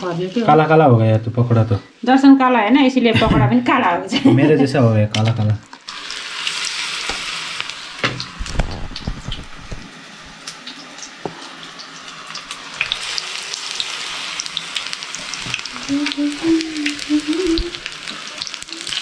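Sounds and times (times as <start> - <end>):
food deep-frying in hot oil: 0.0 - 3.9, 4.6 - 19.0.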